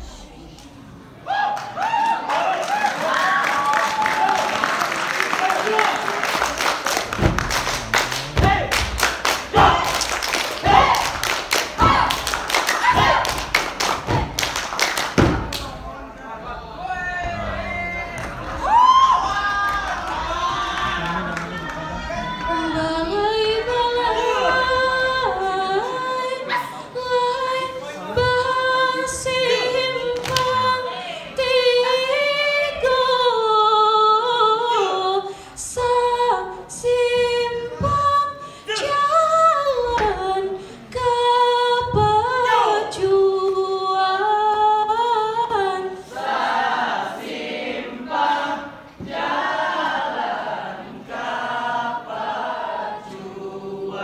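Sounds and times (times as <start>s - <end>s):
unaccompanied group singing: 6.2s - 15.6s, 16.4s - 54.0s.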